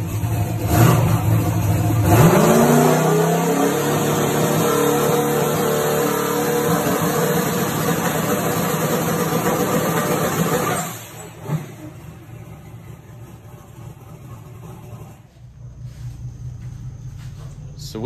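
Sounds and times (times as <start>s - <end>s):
drag car engine running loudly: 0.0s - 18.0s.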